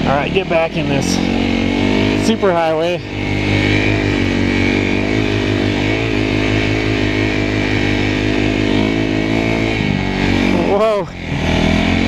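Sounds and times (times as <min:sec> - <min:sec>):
snowmobile engine droning: 0:00.0 - 0:12.0.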